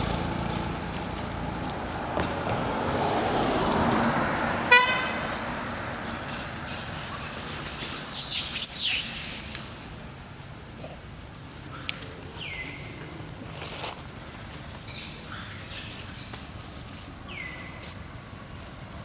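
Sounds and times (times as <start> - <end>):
low outdoor background: 0.0 - 19.0.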